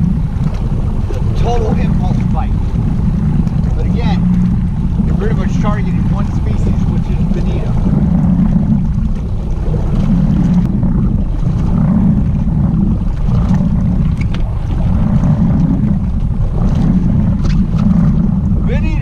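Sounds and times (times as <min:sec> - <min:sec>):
water washing against hull: 0:00.0 - 0:19.0
wind buffeting microphone: 0:00.0 - 0:19.0.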